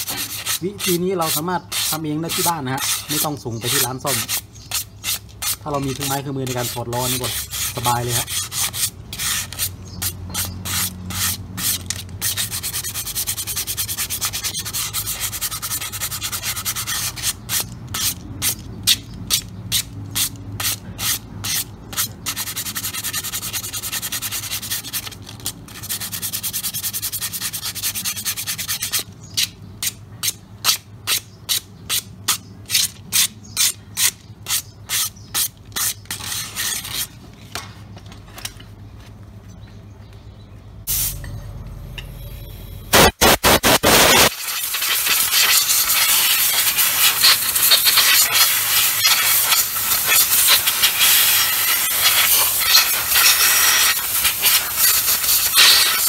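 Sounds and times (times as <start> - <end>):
sandpaper scraping brake shoe: 0.0 - 37.5, 43.0 - 56.0.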